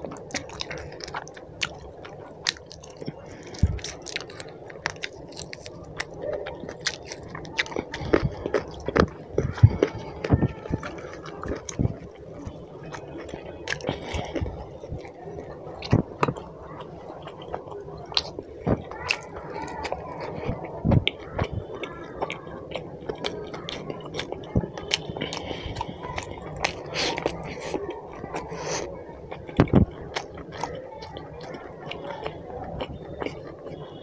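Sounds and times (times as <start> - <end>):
fingers squishing food: 0.0 - 34.0
man chewing with wet smacking: 0.0 - 34.0.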